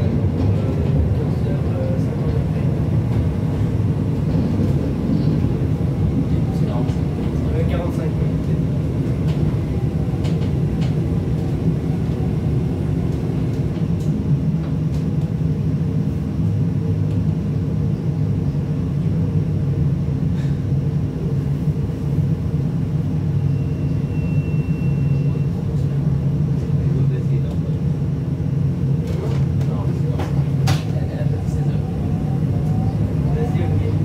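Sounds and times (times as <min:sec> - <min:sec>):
tram rumbling on track: 0:00.0 - 0:34.0.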